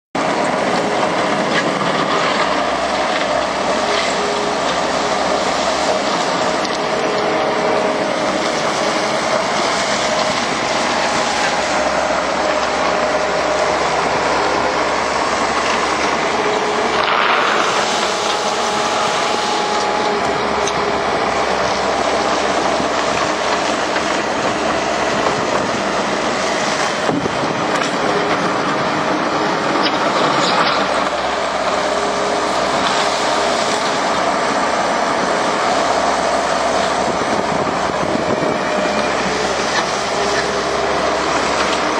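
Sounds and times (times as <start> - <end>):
diesel engine under load: 0.2 - 41.9
machine mechanical noise: 0.2 - 41.9.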